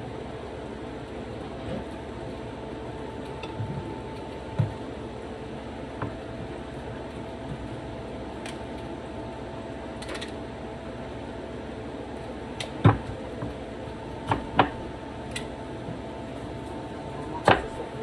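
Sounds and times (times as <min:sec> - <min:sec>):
steady kitchen hum: 0:00.0 - 0:18.0.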